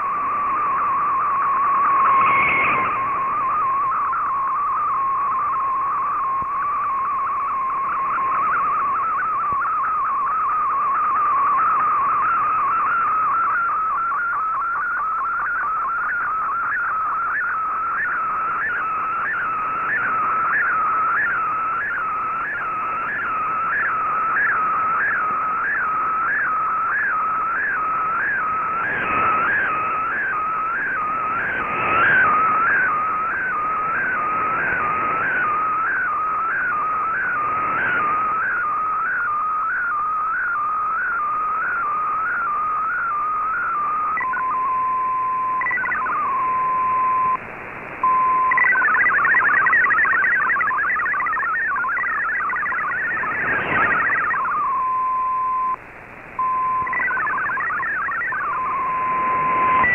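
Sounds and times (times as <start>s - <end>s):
radio hiss: 0.0s - 59.9s
wavering radio data tone: 0.0s - 59.9s.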